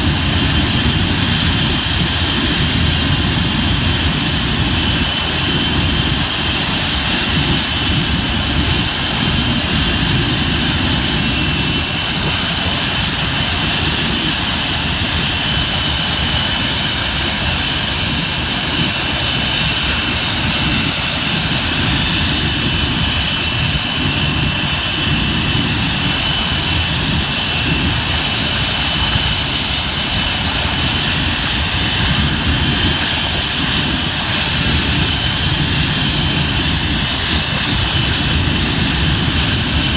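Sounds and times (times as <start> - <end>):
jet engines running with high whine: 0.0 - 39.9.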